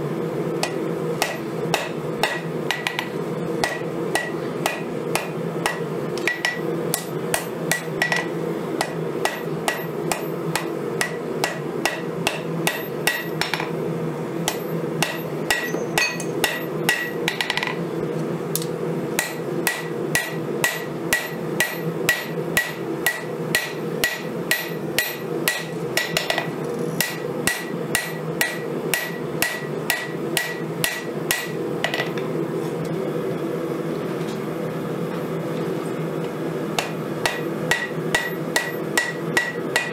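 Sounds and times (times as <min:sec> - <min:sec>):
steady low hum: 0:00.0 - 0:39.9
hammer ringing on anvil: 0:00.6 - 0:13.7, 0:14.5 - 0:17.8, 0:19.2 - 0:32.2, 0:36.8 - 0:39.9.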